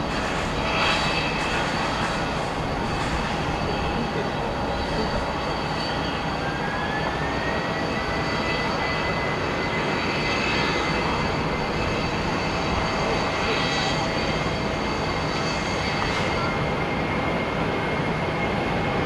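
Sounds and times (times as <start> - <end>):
jet engine noise with rising whine: 0.0 - 19.0.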